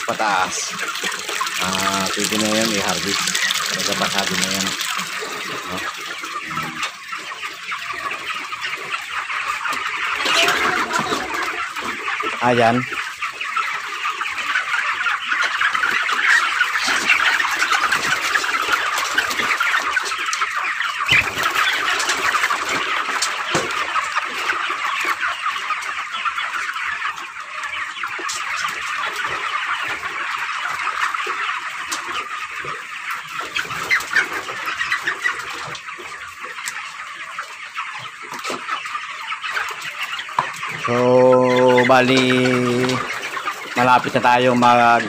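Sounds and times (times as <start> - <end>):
flock of chickens calling: 0.0 - 45.0.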